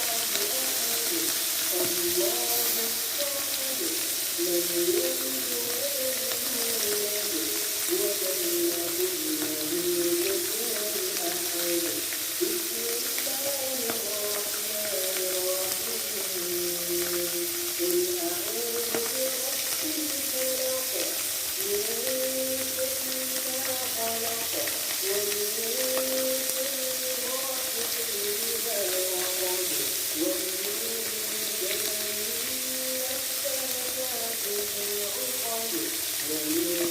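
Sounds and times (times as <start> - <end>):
fish sizzling in hot oil: 0.0 - 36.9.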